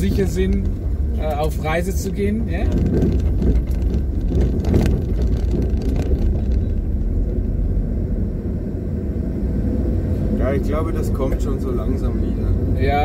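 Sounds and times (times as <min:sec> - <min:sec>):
car cabin engine and road rumble: 0:00.0 - 0:13.0.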